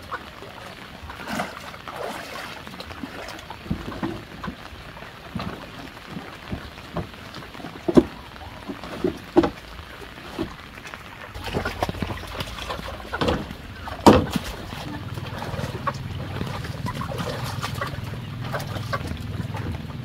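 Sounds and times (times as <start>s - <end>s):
floodwater sloshing and splashing: 0.0s - 20.0s.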